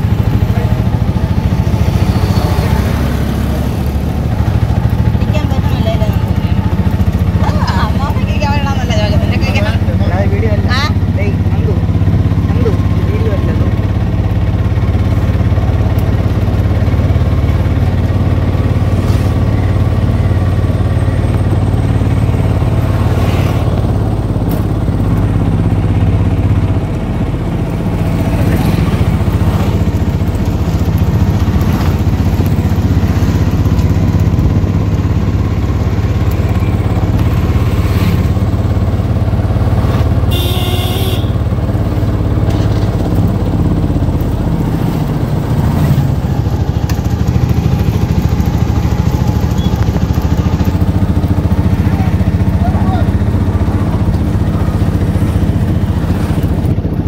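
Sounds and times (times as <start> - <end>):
auto-rickshaw engine running: 0.0 - 57.0.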